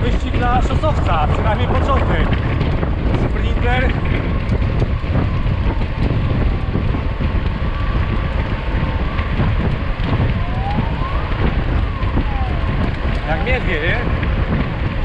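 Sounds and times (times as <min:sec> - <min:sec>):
bike tyres crackling over trail: 0:00.0 - 0:15.0
wind buffeting microphone: 0:00.0 - 0:15.0.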